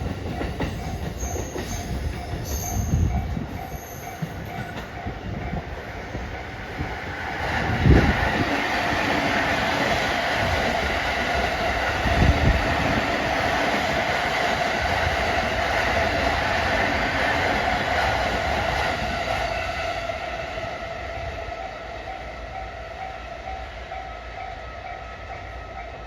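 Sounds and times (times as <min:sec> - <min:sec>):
train cars rolling on rails: 0:00.0 - 0:26.0.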